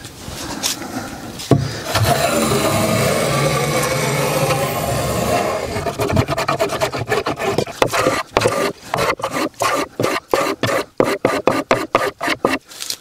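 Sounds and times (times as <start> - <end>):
hand plane shaving wood: 1.8 - 12.7.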